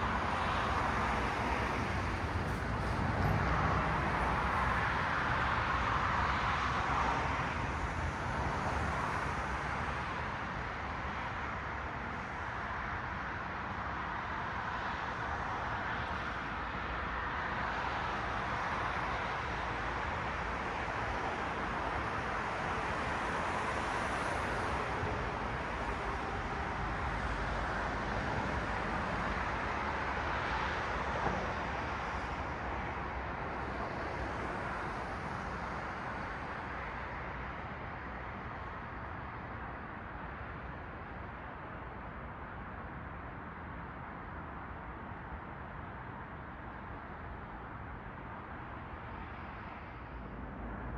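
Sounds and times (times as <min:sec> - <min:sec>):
cars passing on street: 0:00.0 - 0:50.9.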